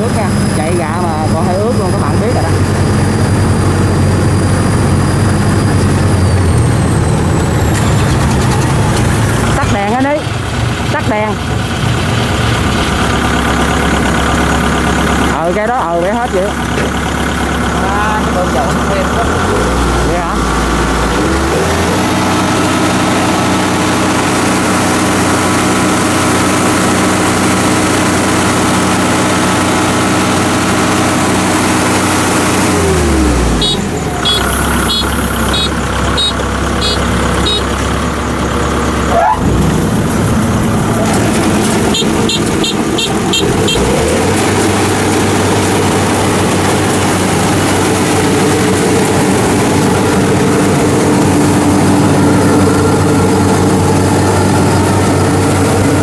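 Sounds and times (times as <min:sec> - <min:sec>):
combine harvester engine running: 0:00.0 - 0:56.0
rough machine noise with ticking: 0:00.0 - 0:56.0.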